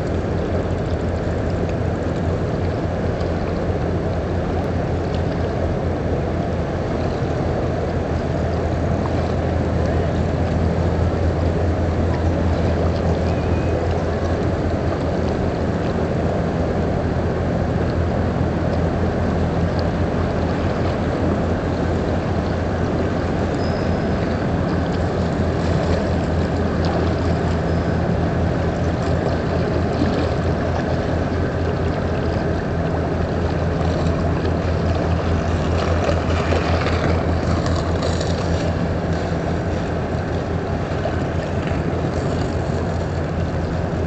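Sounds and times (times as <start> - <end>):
boat diesel engine droning: 0.0 - 44.0
water washing: 0.0 - 44.0.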